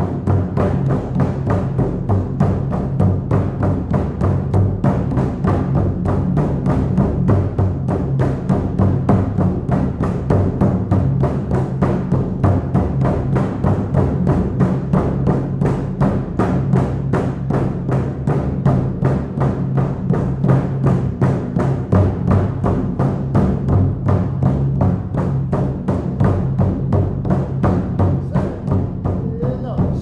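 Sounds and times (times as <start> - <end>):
hand drum booming beat: 0.0 - 30.0.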